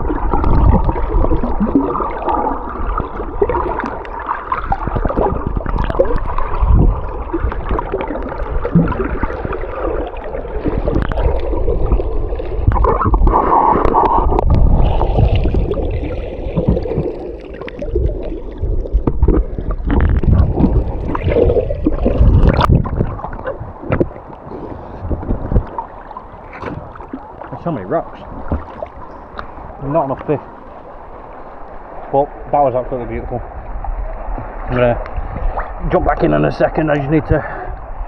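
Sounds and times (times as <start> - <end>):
muffled water sloshing: 0.0 - 38.0
water splashes: 0.0 - 38.0.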